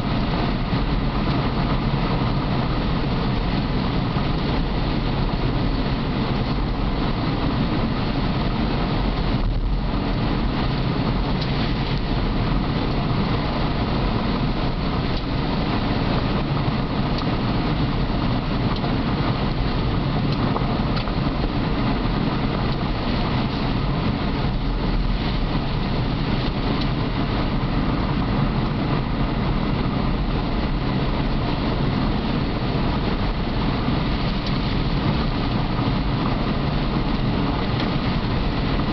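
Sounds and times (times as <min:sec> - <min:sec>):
car engine and road noise: 0:00.0 - 0:38.9
tyres rumbling on gravel: 0:00.0 - 0:38.9.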